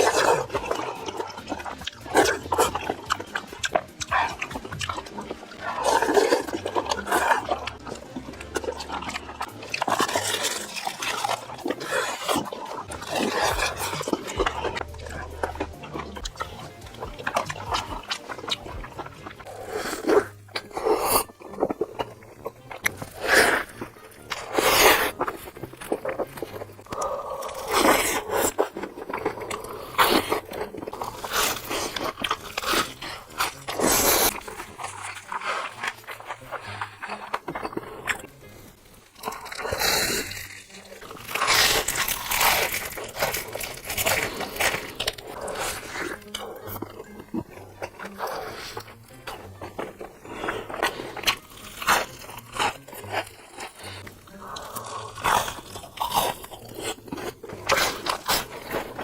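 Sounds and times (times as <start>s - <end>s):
mouth clicks: 0.0s - 59.0s
person chewing with wet smacks: 0.0s - 59.0s
person crunching crisp food: 0.0s - 59.0s.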